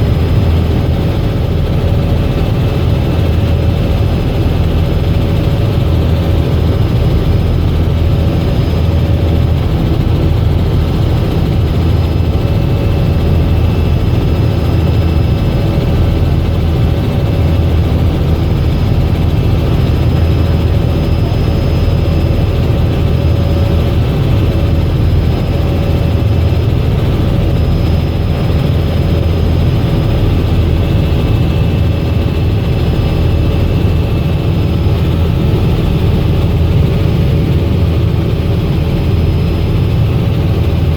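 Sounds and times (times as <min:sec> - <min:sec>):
helicopter drone: 0:00.0 - 0:40.9
high turbine whine: 0:00.0 - 0:40.9.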